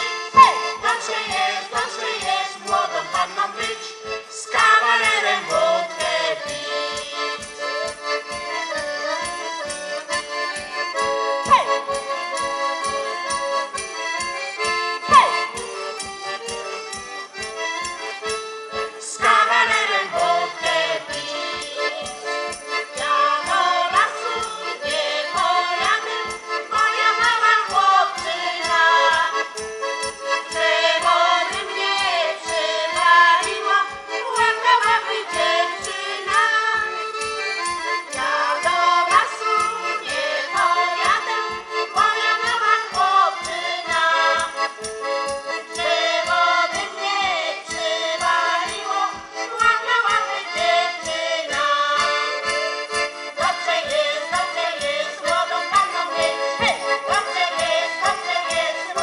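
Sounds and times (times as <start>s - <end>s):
women singing: 0.0s - 13.8s, 14.4s - 16.1s, 19.0s - 59.0s
piano accordion: 0.0s - 59.0s
tambourine: 0.0s - 59.0s.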